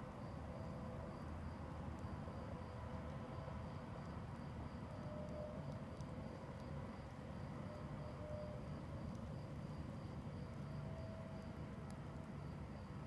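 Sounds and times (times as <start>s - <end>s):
high-pitched insect trill: 2.1s - 13.0s.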